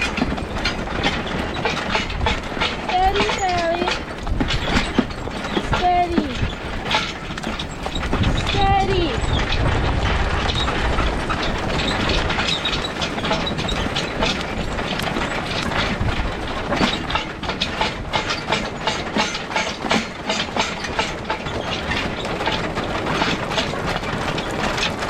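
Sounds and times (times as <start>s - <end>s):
metal track links scraping and clanking: 0.0s - 25.0s.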